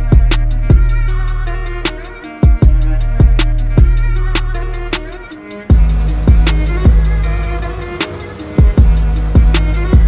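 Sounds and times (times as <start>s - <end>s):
booming bass: 0.0s - 8.0s, 8.6s - 10.0s
hi-hats ticking: 0.0s - 10.0s
hip-hop beat: 0.0s - 10.0s.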